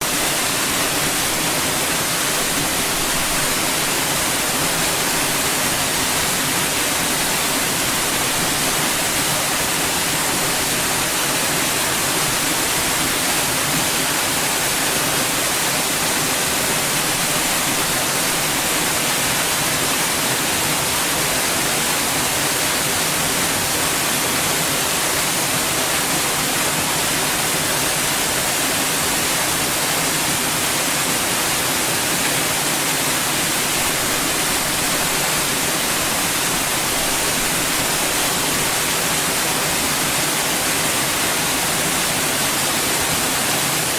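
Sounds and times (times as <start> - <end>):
white noise hiss: 0.0 - 43.9.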